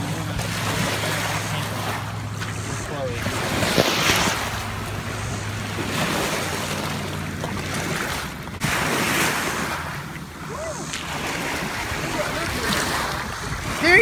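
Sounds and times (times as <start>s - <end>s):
low rumble: 0.0s - 14.0s
waves splashing against rocks: 0.0s - 14.0s.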